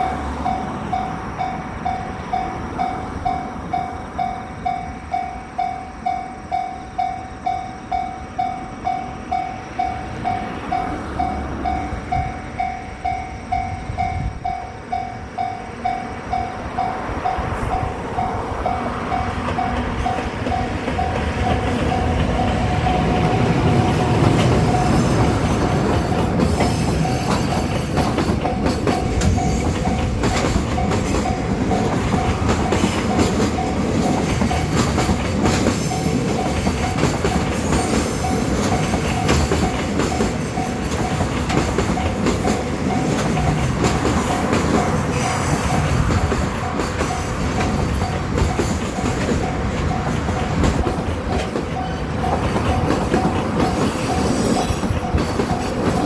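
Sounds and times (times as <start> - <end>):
crossing bell dinging: 0.0 - 56.0
freight train rumble and clatter: 0.0 - 56.0.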